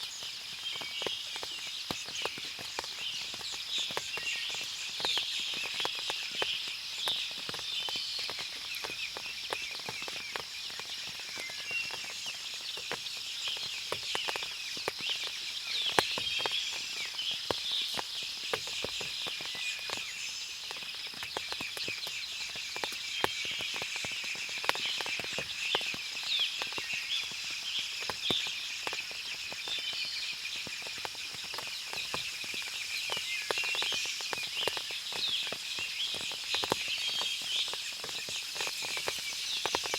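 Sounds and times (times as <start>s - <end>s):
birds chirping and twittering: 0.0s - 39.9s
water dripping from leaves: 0.0s - 39.9s.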